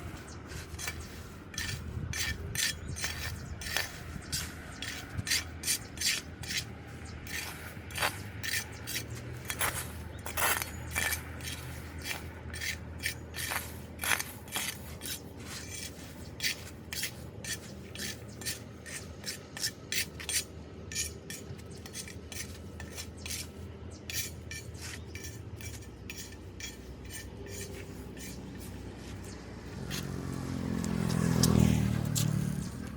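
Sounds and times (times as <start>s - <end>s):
metal tool scraping drain grate: 0.6s - 23.5s, 24.1s - 28.8s.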